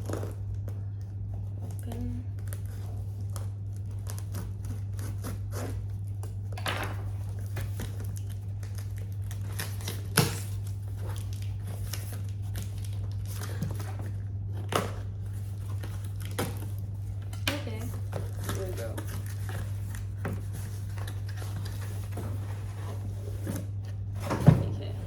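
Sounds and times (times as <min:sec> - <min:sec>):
cardboard and plastic rustling: 0:00.0 - 0:25.0
steady low hum: 0:00.0 - 0:25.0.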